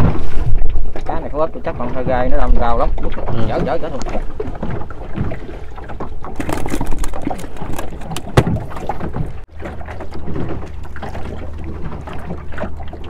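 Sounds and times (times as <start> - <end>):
knocks and clatter on boat: 0.0 - 13.0
water splashing against boat hull: 0.0 - 13.0.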